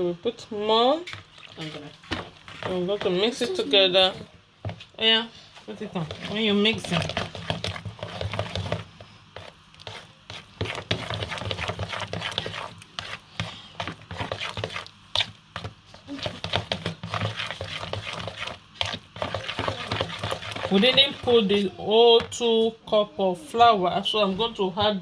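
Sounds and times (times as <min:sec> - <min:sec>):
utensil scraping mixing bowl: 0:01.0 - 0:22.5.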